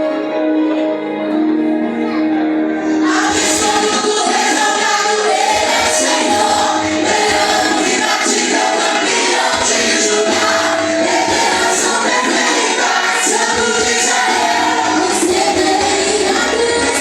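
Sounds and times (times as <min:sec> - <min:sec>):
group singing a worship song: 0:03.0 - 0:17.0.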